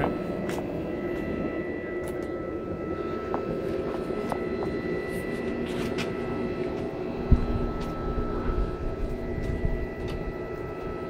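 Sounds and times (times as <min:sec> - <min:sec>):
gas forge roaring: 0:00.0 - 0:11.0
hydraulic pump whine: 0:00.0 - 0:11.0.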